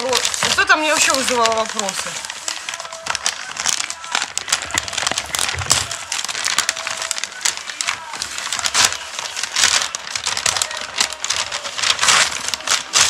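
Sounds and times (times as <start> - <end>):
gift packaging crinkling: 0.0 - 13.0.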